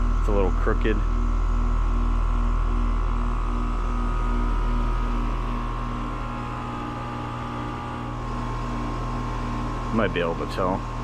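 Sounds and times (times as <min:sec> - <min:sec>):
air conditioner condenser humming: 0:00.0 - 0:11.0
low pulsing throb: 0:00.0 - 0:11.0.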